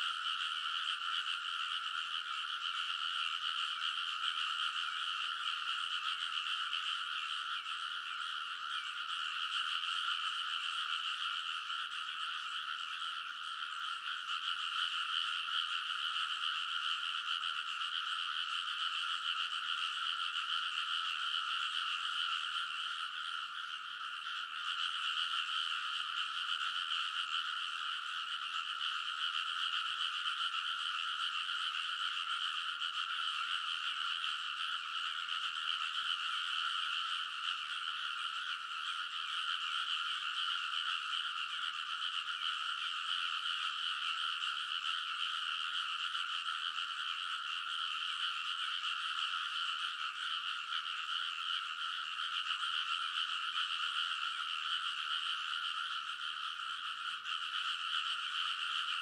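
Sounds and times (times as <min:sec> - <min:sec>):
chorus of frogs croaking: 0:00.0 - 0:59.0.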